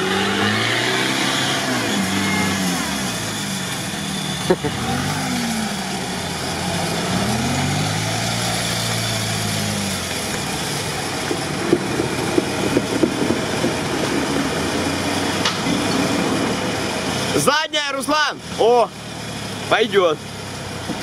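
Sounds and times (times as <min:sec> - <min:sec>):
off-road engine revving: 0:00.0 - 0:21.0.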